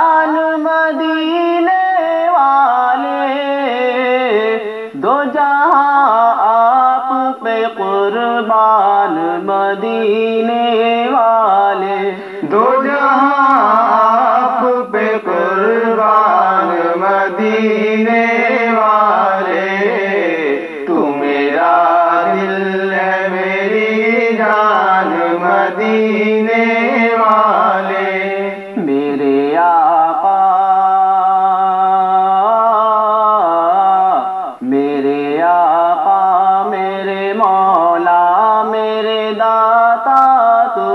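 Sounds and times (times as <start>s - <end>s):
men singing devotional song: 0.0s - 40.9s.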